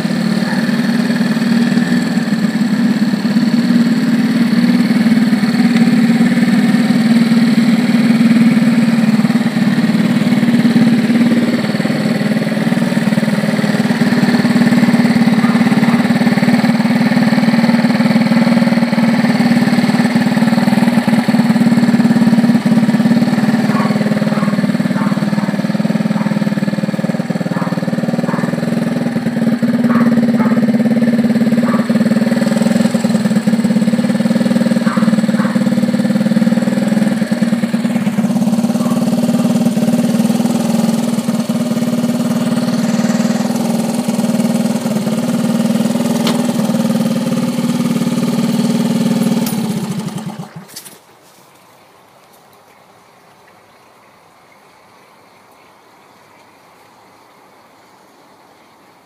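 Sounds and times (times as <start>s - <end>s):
motorcycle engine idling: 0.0s - 50.8s.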